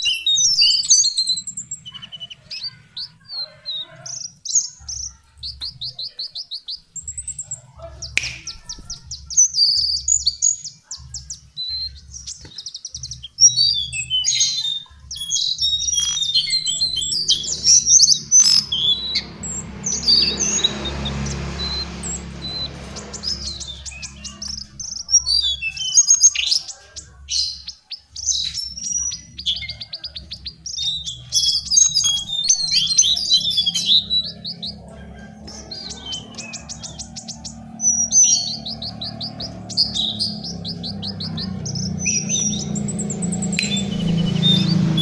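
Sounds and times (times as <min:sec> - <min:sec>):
bird singing trills: 0:00.0 - 0:45.0.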